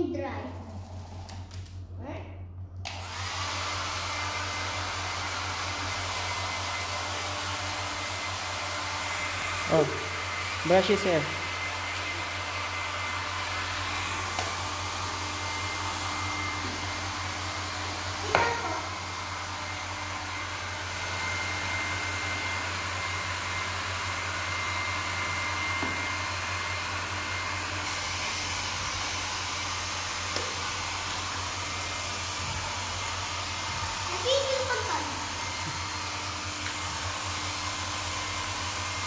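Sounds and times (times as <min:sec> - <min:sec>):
hair dryer running: 0:02.8 - 0:39.0.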